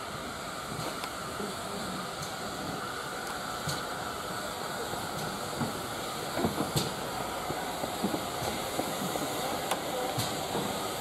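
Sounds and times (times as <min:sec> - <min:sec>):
steam locomotive rushing: 0:00.0 - 0:11.0
train clanks and clicks: 0:00.0 - 0:11.0.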